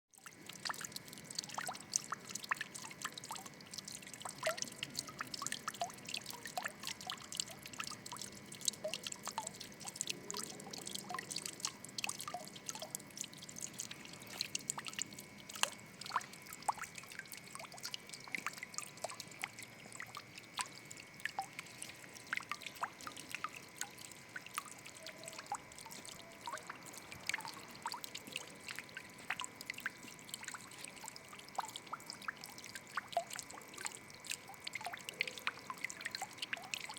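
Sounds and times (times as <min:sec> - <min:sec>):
water trickling and dripping: 0:00.2 - 0:36.9.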